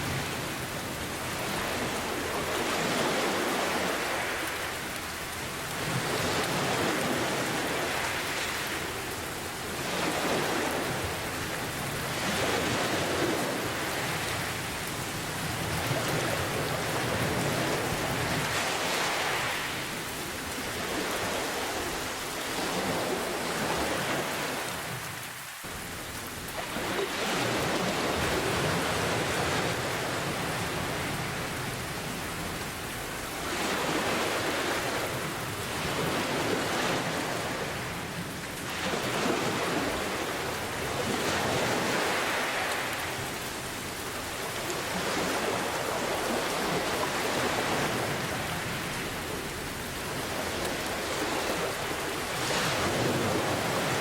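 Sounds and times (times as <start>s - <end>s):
ocean waves: 0.0s - 54.0s
rain hiss: 0.0s - 54.0s.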